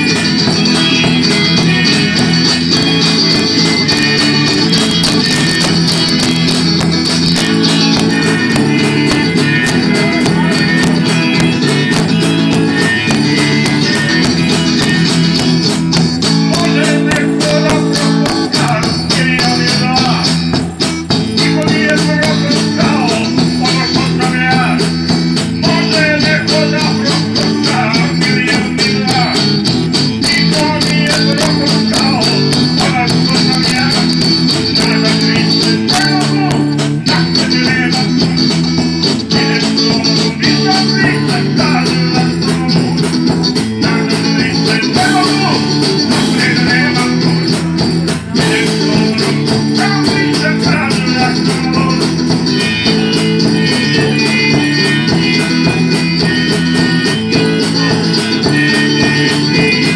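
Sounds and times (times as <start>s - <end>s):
bass line: 0.0s - 59.9s
drum beat: 0.0s - 59.9s
electric guitar playing: 0.0s - 59.9s.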